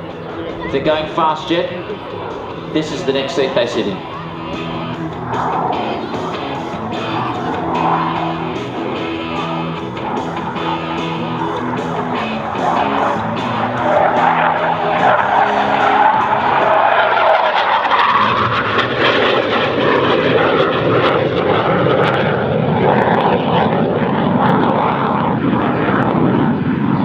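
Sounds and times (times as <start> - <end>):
jet engine rush: 0.0 - 27.0.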